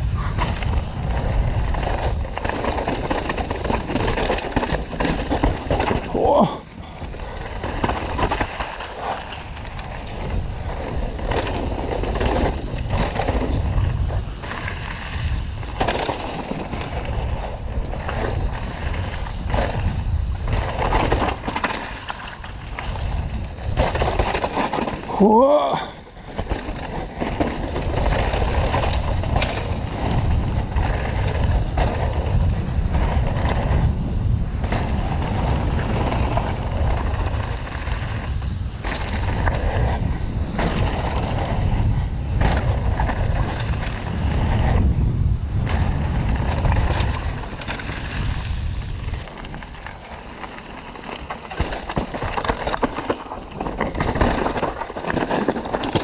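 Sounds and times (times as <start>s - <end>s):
bike rattling and knocking: 0.0s - 56.0s
tyres over dirt and rock: 0.0s - 56.0s
wind rumbling on microphone: 0.0s - 56.0s.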